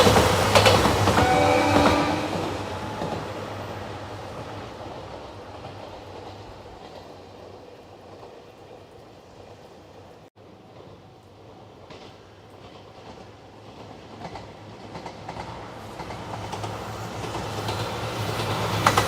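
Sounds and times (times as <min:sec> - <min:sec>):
train wheels clattering on track: 0:00.0 - 0:19.0.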